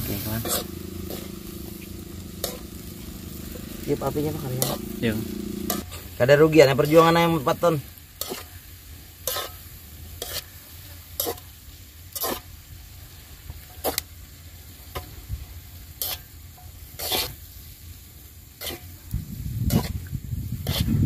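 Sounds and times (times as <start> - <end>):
faint sizzle: 0.0 - 21.0
spatula scraping a wok: 0.0 - 21.0.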